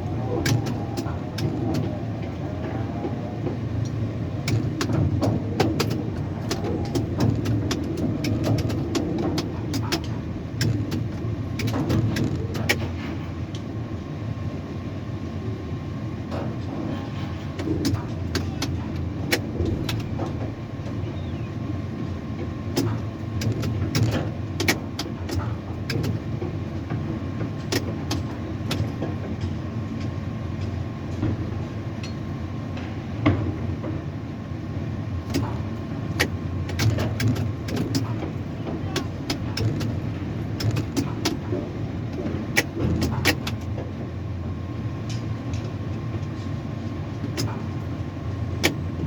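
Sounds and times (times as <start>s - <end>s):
crane machinery rumbling: 0.0s - 49.0s.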